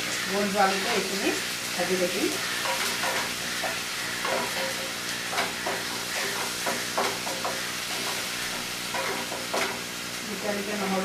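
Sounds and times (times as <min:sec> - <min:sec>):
paste sizzling in hot oil: 0:00.0 - 0:11.0
stirring strokes against pan: 0:00.0 - 0:11.0.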